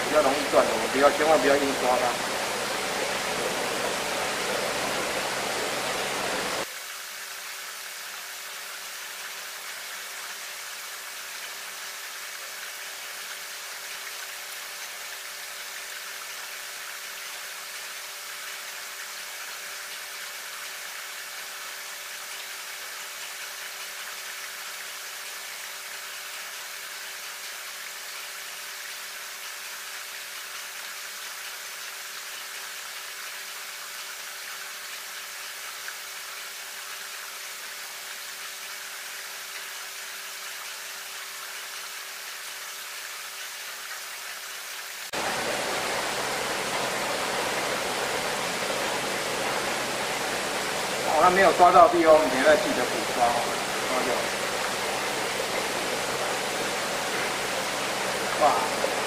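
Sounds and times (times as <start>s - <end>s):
steady hiss: 0.0s - 26.7s, 35.0s - 59.0s.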